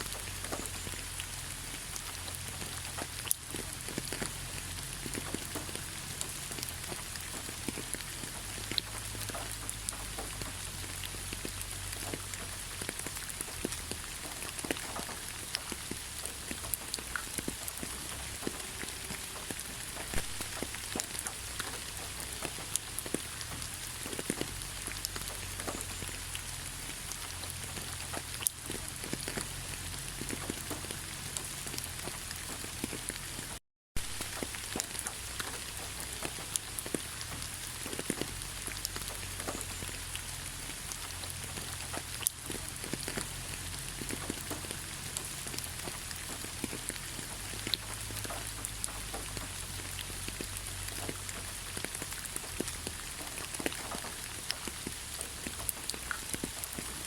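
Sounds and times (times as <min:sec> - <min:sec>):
rain hissing: 0:00.0 - 0:57.0
raindrops ticking: 0:00.0 - 0:57.0.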